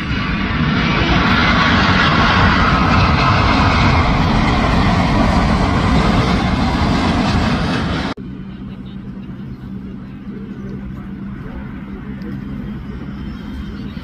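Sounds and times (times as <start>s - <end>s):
distant airliner rumble: 0.0s - 14.0s
jet engine passing overhead: 0.0s - 14.0s.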